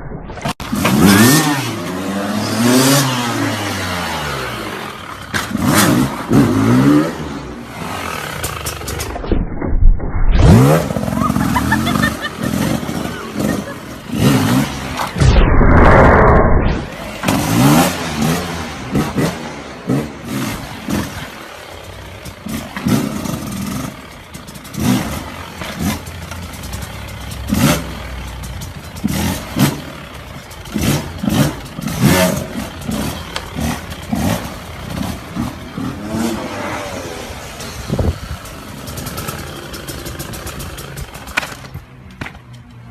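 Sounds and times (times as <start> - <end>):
two-stroke motorbike engine revving: 0.6 - 9.2, 10.4 - 15.2, 16.9 - 41.6.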